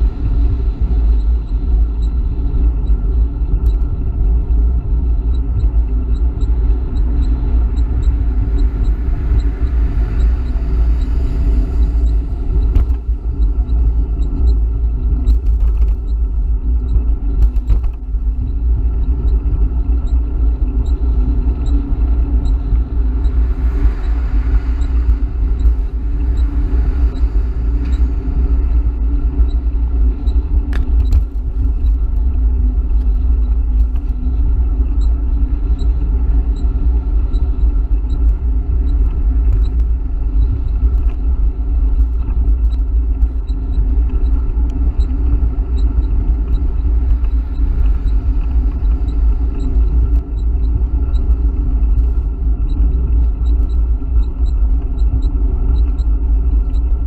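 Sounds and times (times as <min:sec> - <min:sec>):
freeway traffic: 0:00.0 - 0:57.0
wind rumbling on microphone: 0:00.0 - 0:57.0.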